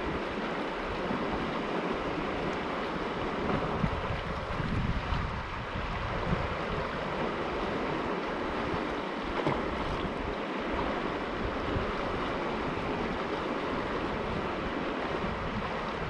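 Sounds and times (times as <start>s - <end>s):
creek rushing over rocks: 0.0s - 16.0s
wind buffeting microphone: 0.0s - 16.0s.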